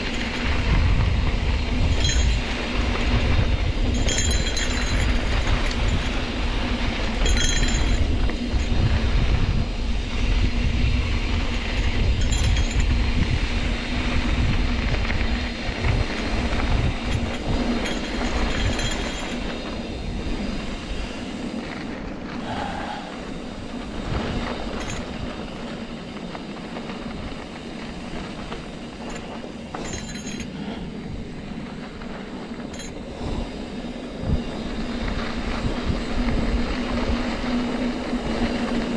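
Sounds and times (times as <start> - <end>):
bike rattling and clinking: 0.0 - 38.9.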